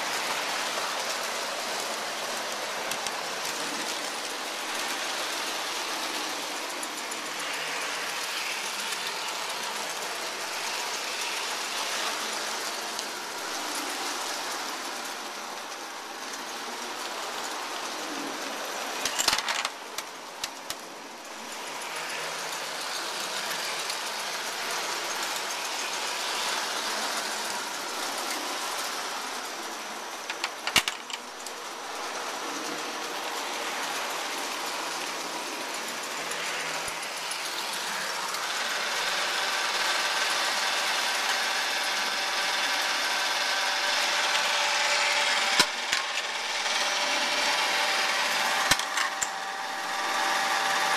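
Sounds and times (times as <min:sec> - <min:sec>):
toy train clatter: 0:00.0 - 0:50.9
toy train motors whirring: 0:00.0 - 0:50.9.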